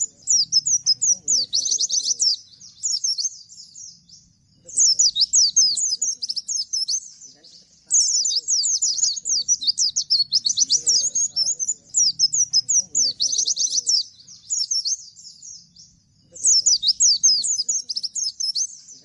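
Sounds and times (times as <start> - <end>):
bird singing rapid falling notes: 0.0 - 19.0.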